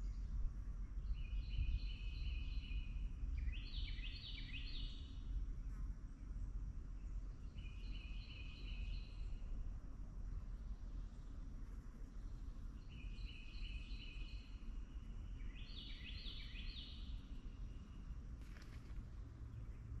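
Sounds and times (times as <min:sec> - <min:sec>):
songbird singing: 0:00.0 - 0:09.7, 0:10.3 - 0:20.0
low background rumble: 0:00.0 - 0:20.0.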